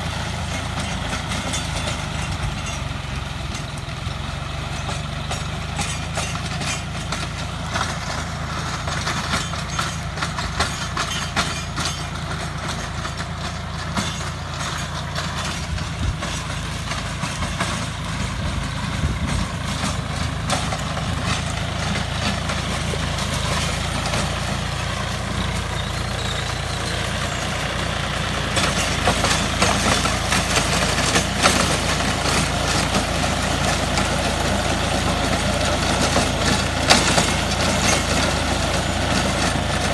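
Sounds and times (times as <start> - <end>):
rotary tiller crackling and clattering: 0.0 - 39.9
tractor diesel engine running: 0.0 - 39.9.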